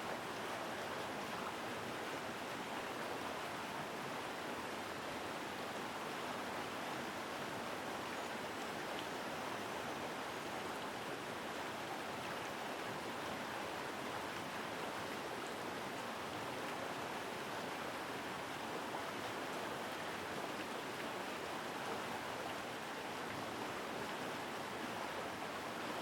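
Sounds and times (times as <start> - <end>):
stream rushing: 0.0 - 26.0.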